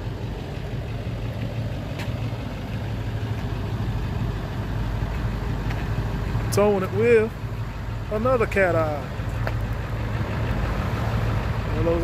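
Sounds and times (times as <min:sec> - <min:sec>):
pickup engine running: 0:00.0 - 0:12.0.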